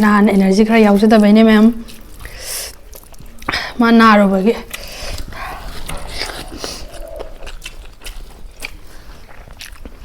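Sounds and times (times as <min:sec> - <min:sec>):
chewing chicken: 0:00.0 - 0:10.0.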